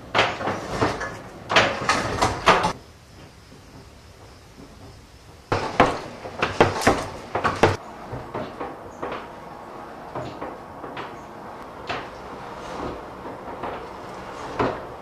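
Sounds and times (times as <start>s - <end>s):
loud sharp knocks and clatters: 0.0s - 15.0s.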